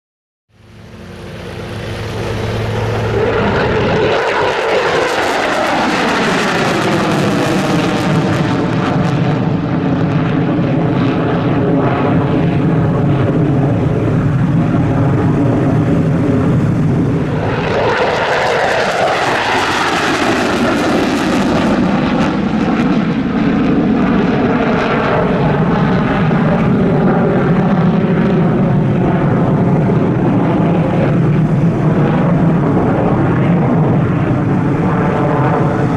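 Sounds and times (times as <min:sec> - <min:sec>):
fighter jets roaring: 0:00.6 - 0:35.9.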